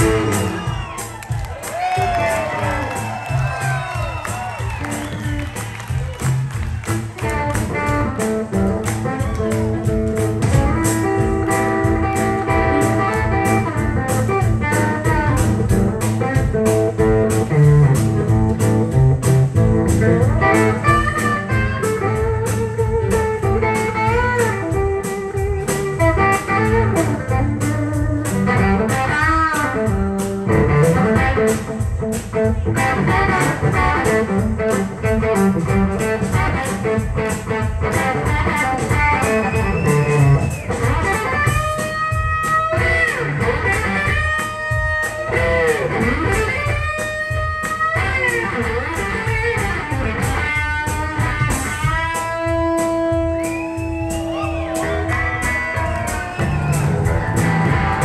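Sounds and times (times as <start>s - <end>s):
bass guitar: 0.0s - 58.0s
drums: 0.0s - 58.0s
electric guitar lead: 0.0s - 58.0s.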